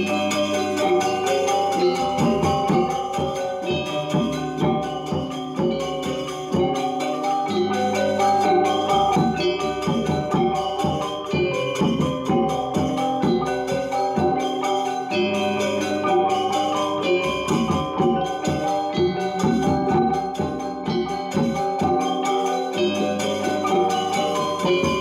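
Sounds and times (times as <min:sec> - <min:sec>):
gamelan ensemble playing: 0:00.0 - 0:25.0
metallophones and gongs ringing: 0:00.0 - 0:25.0.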